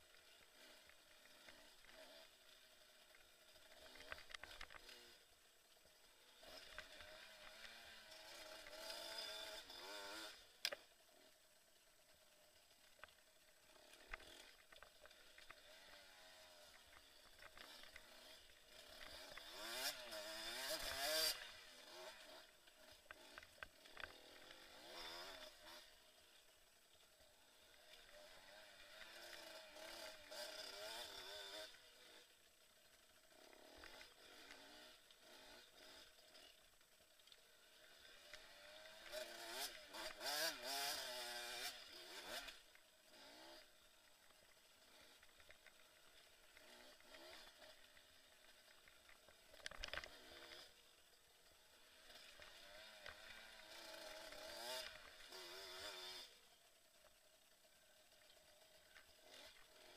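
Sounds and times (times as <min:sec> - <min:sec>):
dirt bike engine revving: 0:00.2 - 0:04.1, 0:06.2 - 0:11.3, 0:13.7 - 0:26.4, 0:27.2 - 0:32.3, 0:33.0 - 0:36.6, 0:37.5 - 0:50.8, 0:51.5 - 0:56.4, 0:58.4 - 0:59.9.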